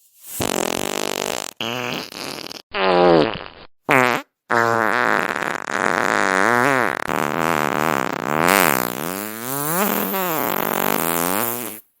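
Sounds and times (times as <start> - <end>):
long fart sound: 0.4 - 12.0.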